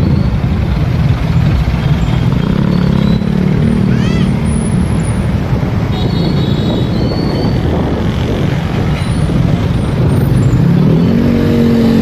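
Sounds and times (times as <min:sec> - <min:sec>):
motorcycle engine running: 0:00.0 - 0:12.0
road noise: 0:00.0 - 0:12.0
traffic: 0:00.0 - 0:12.0.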